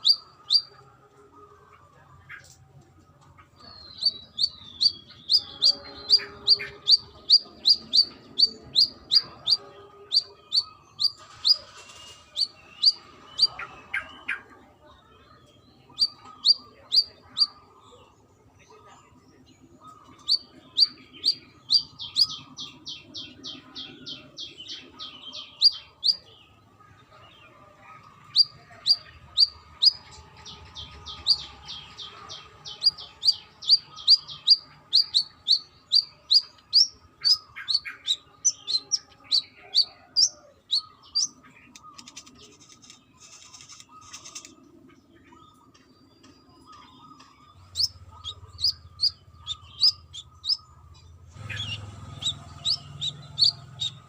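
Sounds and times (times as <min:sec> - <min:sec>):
bird singing high chirps: 0:00.0 - 0:00.9, 0:03.4 - 0:14.5, 0:15.3 - 0:18.2, 0:18.8 - 0:27.3, 0:27.9 - 0:54.0.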